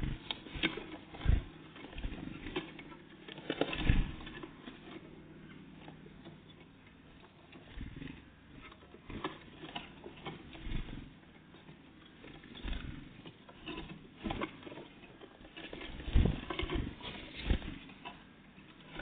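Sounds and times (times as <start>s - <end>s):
small birds pecking at feeder: 0.0s - 19.0s.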